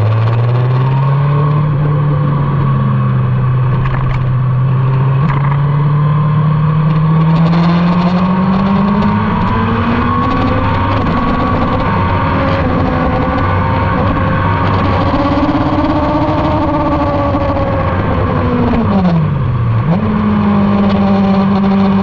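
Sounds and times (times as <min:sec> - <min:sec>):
motorcycle engine running hard: 0:00.0 - 0:22.0.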